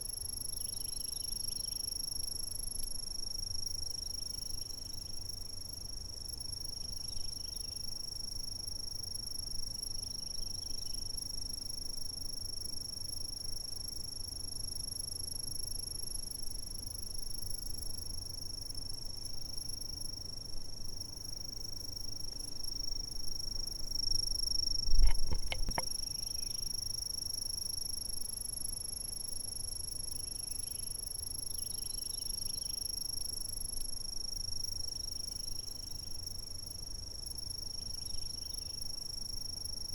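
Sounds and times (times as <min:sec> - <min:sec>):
insects trilling: 0:03.6 - 0:13.4, 0:16.3 - 0:39.9.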